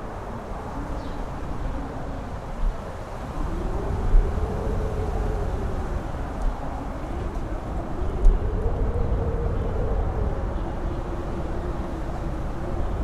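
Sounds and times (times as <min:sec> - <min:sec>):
howling wind tone: 0:00.0 - 0:13.0
strong wind buffeting microphone: 0:00.0 - 0:13.0.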